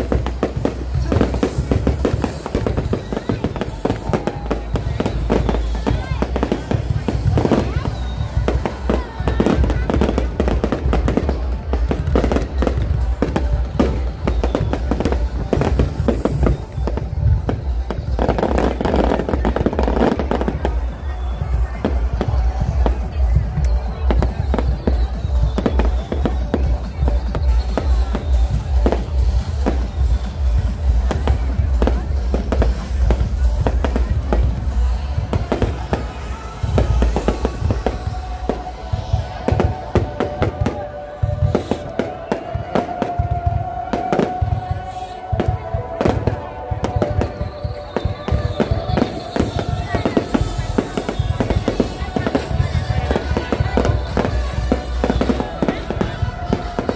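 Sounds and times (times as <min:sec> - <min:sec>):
fireworks bangs and pops: 0:00.0 - 0:56.9
fireworks crackle: 0:00.0 - 0:56.9
music with heavy bass: 0:00.0 - 0:56.9.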